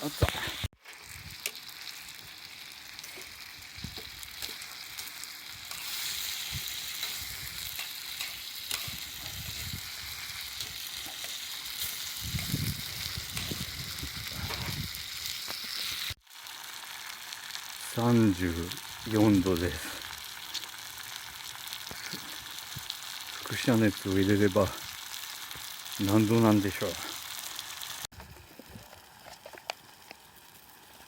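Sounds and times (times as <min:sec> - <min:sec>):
food sizzling over campfire: 0:00.0 - 0:31.0.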